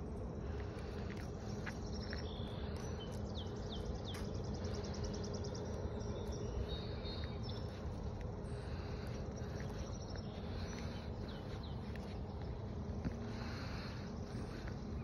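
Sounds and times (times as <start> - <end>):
low background rumble: 0.0 - 15.0
songbirds singing: 0.0 - 15.0.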